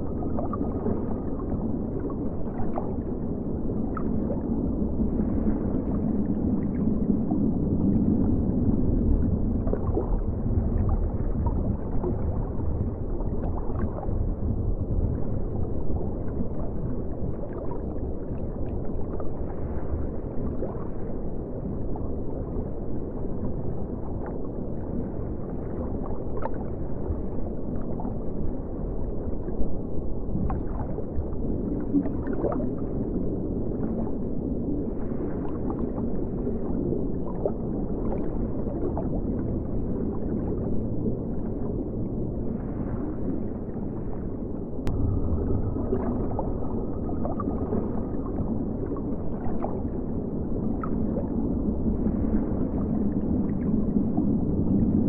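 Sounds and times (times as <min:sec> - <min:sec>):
faint underwater clicks and crackles: 0:00.0 - 0:55.0
underwater rumble of moving water: 0:00.0 - 0:55.0.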